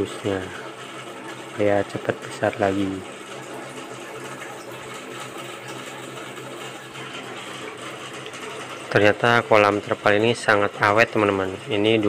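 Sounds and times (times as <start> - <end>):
electric water pump humming: 0.0 - 12.0.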